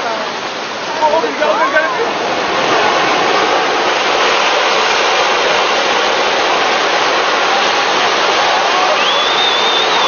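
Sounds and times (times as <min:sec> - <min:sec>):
rushing flood water roar: 0:00.0 - 0:10.0.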